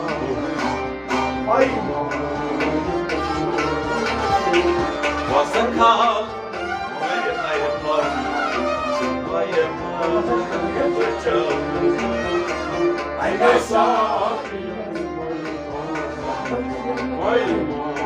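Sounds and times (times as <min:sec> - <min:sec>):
harmonium melody over drone: 0:00.0 - 0:17.8
bowed string instrument: 0:00.0 - 0:18.0.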